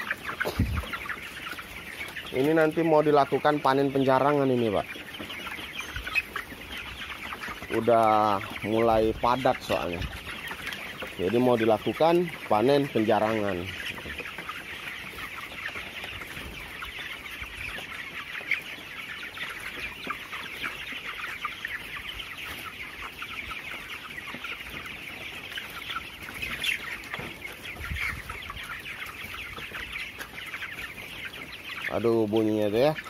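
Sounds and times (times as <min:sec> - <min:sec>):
chickens peeping and chirping: 0:00.0 - 0:33.0.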